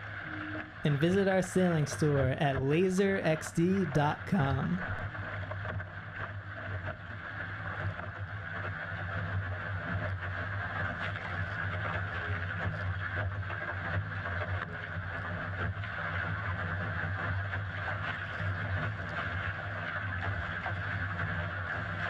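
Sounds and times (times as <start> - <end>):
water rushing along boat hull: 0.0 - 22.0.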